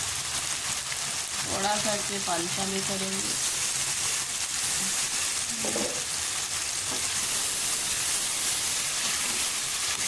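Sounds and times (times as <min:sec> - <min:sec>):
masala sizzling in a pan: 0:00.0 - 0:10.0.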